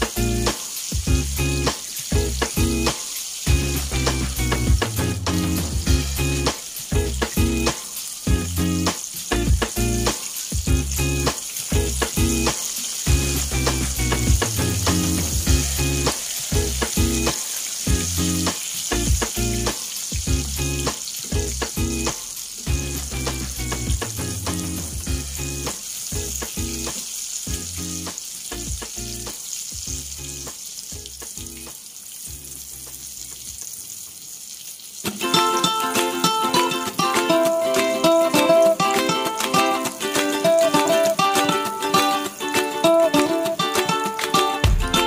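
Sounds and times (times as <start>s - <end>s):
fish frying in hot oil: 0.0s - 45.0s.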